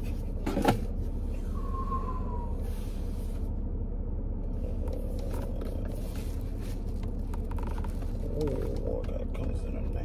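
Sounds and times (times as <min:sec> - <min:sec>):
low rumble inside car cabin: 0:00.0 - 0:10.0.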